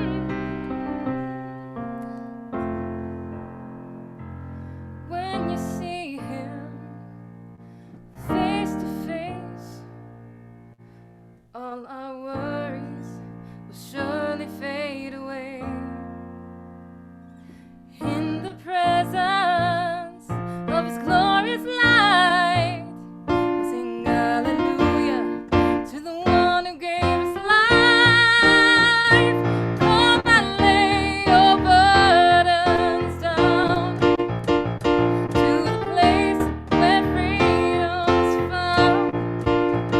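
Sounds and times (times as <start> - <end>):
slow piano chords: 0.0 - 39.9.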